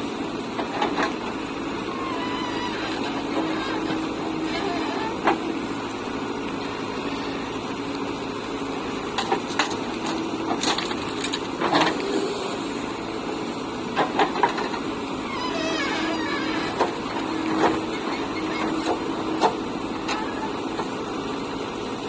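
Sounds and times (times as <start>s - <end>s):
heavy machinery diesel engine: 0.0s - 22.0s.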